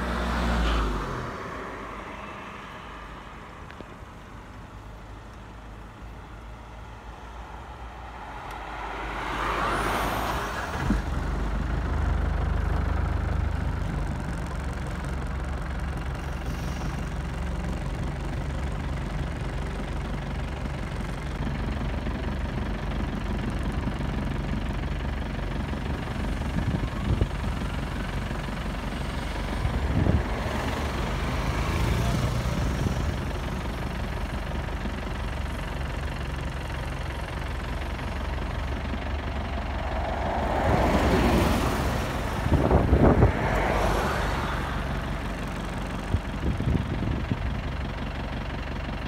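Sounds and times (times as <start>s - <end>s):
vehicle engine idling: 0.0s - 49.0s
vehicles passing by: 0.0s - 49.0s.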